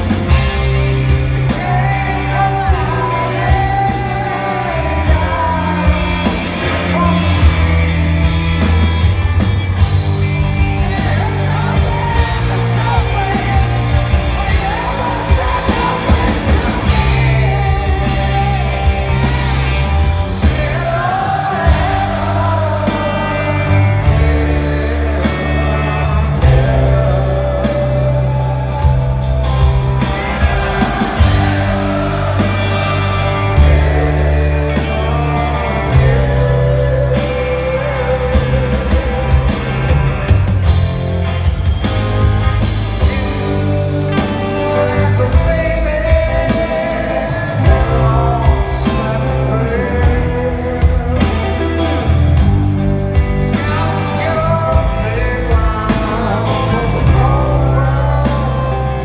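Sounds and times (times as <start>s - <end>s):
man singing lead vocal: 0.0s - 9.0s, 9.9s - 40.2s, 43.0s - 59.0s
live rock band playing: 0.0s - 59.0s.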